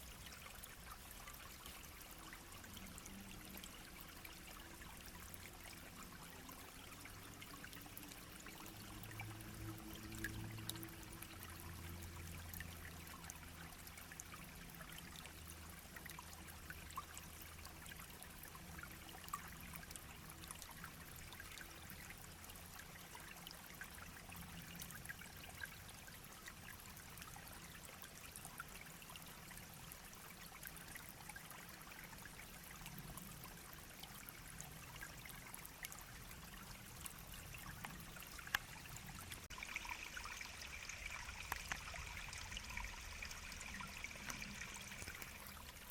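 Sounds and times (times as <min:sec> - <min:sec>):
shallow brook babbling: 0:00.0 - 0:45.9
small water splashes: 0:00.0 - 0:45.9.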